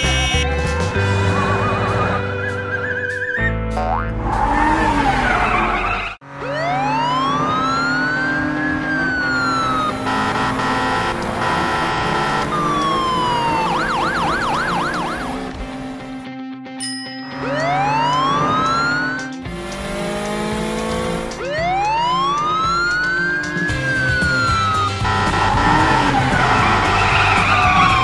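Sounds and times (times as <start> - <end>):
cartoon ambulance siren: 0.0 - 3.4, 4.5 - 15.4, 17.4 - 19.3, 21.3 - 28.0.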